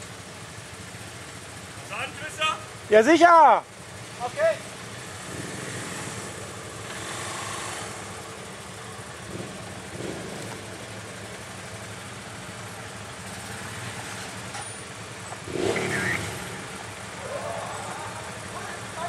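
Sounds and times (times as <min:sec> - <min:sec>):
atv engine running at low revs: 0:00.0 - 0:19.0.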